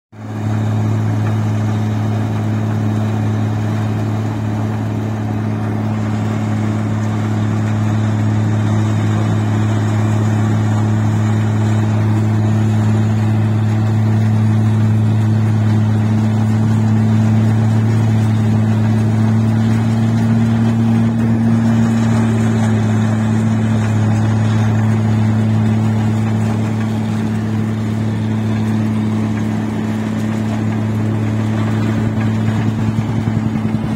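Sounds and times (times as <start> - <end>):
combine harvester engine drone: 0.1 - 33.9
machine rattling: 4.7 - 33.9.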